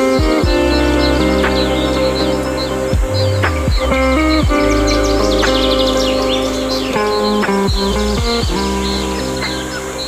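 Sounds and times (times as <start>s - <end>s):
small birds chirping: 0.0s - 10.0s
soft background music: 0.0s - 10.0s.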